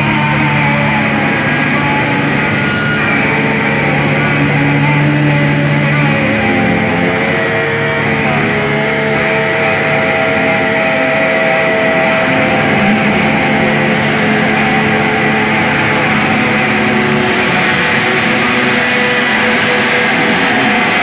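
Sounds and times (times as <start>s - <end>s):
distorted noise drone: 0.0s - 21.0s.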